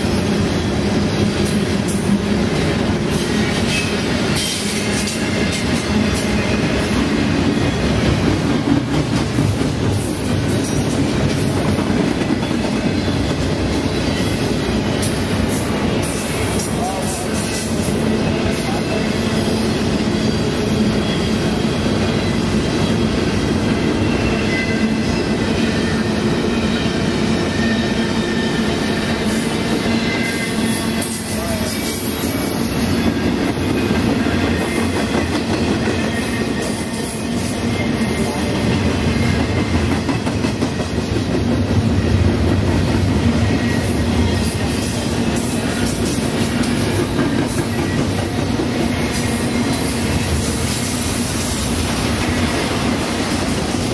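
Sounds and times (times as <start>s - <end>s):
clickety-clack over rail joints: 0.0s - 25.2s, 29.1s - 53.9s
train wheels rumbling on track: 0.0s - 53.9s.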